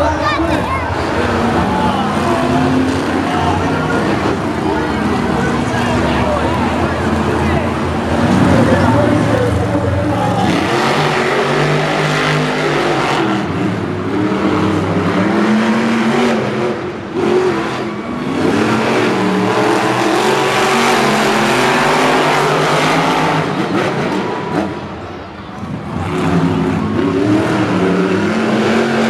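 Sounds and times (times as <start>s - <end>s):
truck engines revving hard: 0.0s - 29.0s.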